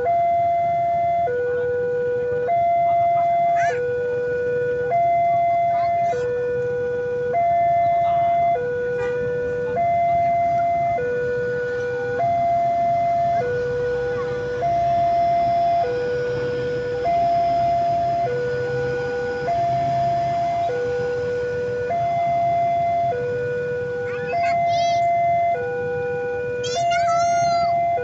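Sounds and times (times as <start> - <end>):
diesel locomotive humming: 0.0 - 28.0
two-tone crossing alarm: 0.0 - 28.0.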